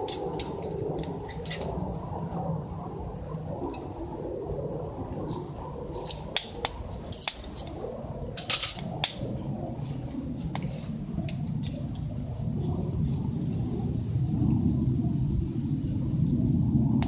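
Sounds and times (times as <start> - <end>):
wood fire crackling: 0.0 - 13.8
fire popping: 0.0 - 14.7
low background rumble: 0.0 - 17.0.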